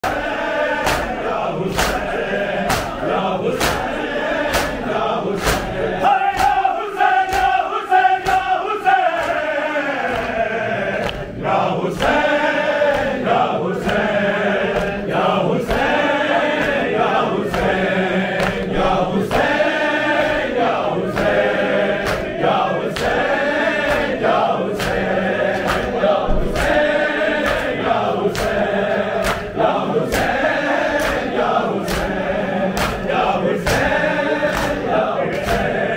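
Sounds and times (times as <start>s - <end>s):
hands slapping chests: 0.0s - 35.8s
men chanting in unison: 0.0s - 35.9s.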